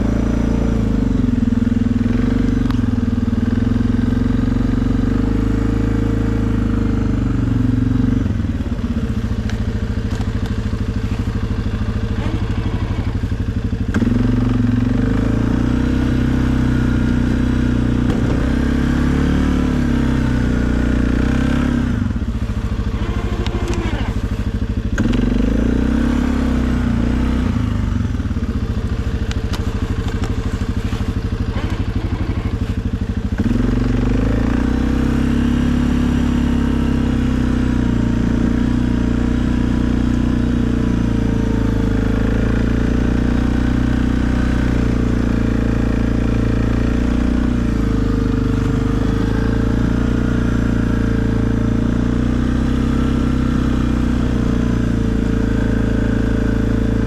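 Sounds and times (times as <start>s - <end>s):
atv engine running under load: 0.0s - 57.0s.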